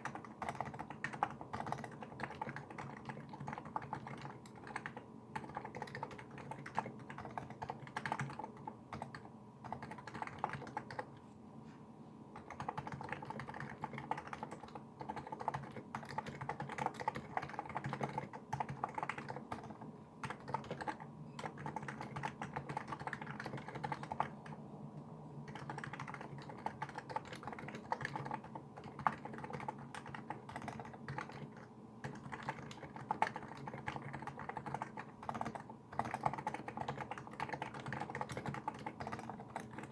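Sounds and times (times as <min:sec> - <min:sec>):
keyboard typing: 0:00.0 - 0:11.3, 0:12.4 - 0:24.6, 0:25.5 - 0:39.9.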